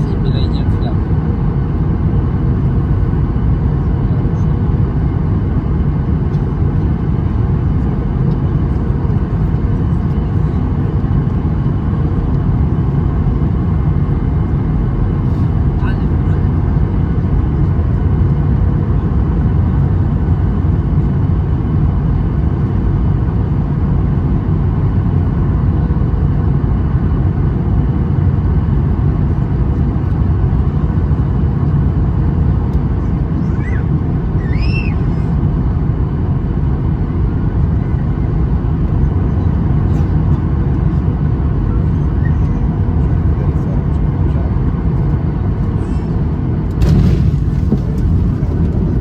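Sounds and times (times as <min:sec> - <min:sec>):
airplane cabin engine roar: 0:00.0 - 0:49.0.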